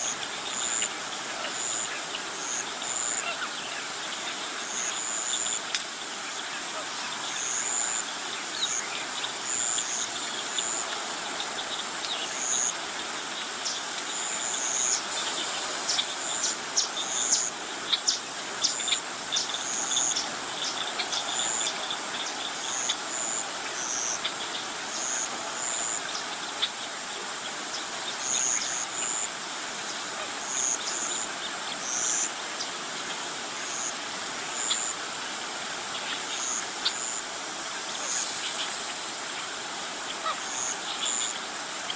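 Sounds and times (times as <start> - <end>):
insects hissing: 0.0 - 41.9.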